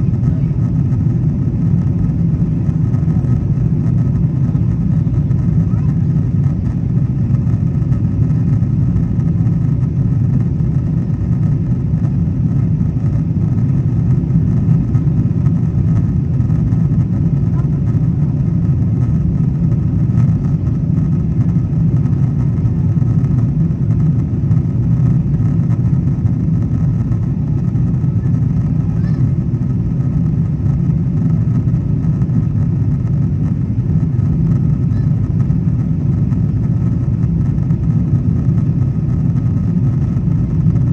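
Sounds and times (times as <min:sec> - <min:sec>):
faint steady whine: 0:00.0 - 0:40.9
jet engine and airflow roar: 0:00.0 - 0:40.9.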